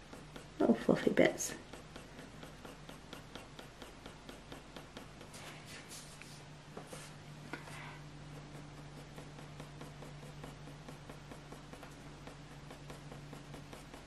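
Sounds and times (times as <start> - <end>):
low steady hum: 0.0 - 14.0
pencil scratching on paper: 0.0 - 14.0.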